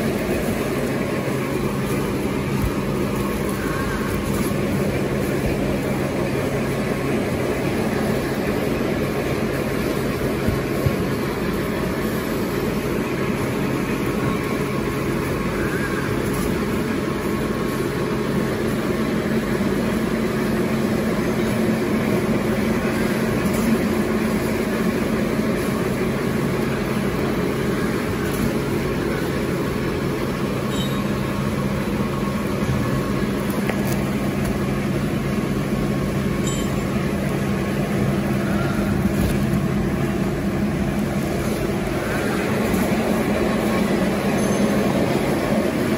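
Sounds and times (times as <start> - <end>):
machine hum with low drone: 0.0 - 45.9.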